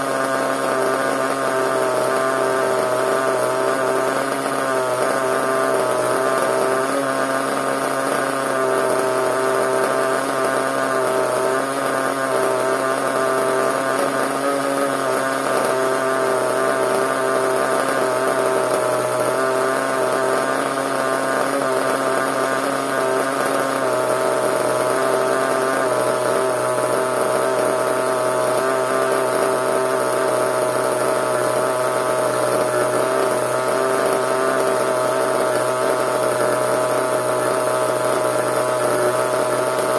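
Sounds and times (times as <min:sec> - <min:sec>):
small nitro engine running: 0:00.0 - 0:39.9.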